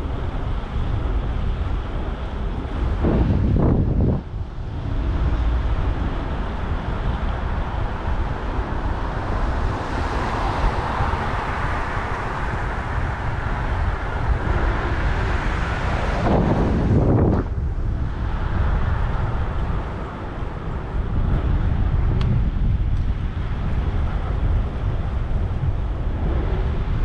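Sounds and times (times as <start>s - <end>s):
street traffic: 0.0s - 27.0s
wind buffeting microphone: 0.0s - 27.0s.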